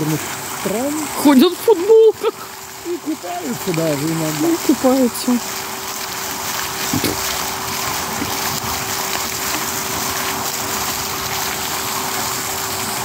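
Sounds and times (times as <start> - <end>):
faint steady hum: 0.0 - 13.0
fountain water splashing: 0.0 - 13.0.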